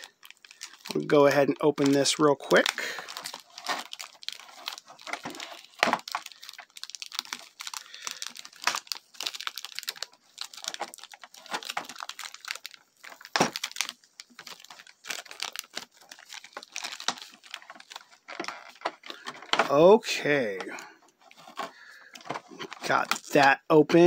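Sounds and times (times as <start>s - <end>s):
wrapper crinkling and tearing: 0.0s - 24.0s.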